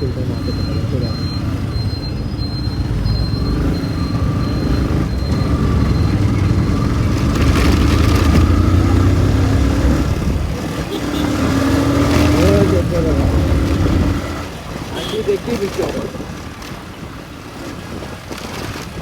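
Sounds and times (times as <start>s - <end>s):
motorcycle engine accelerating: 0.0s - 19.0s
road and wind rumble: 0.0s - 19.0s.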